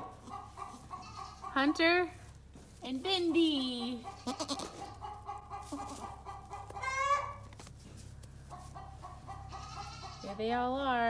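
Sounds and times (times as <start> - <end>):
chickens clucking: 0.0 - 1.9, 3.2 - 10.6.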